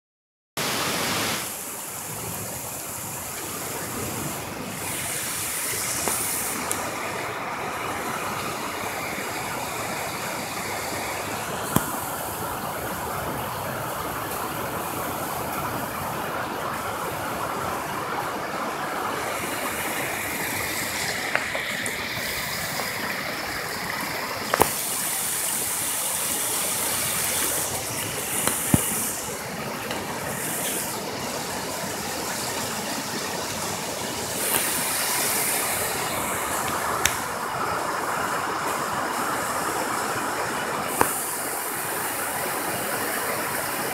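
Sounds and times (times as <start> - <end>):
floodwater flowing: 0.6 - 43.9
heavy rain falling: 0.6 - 43.9.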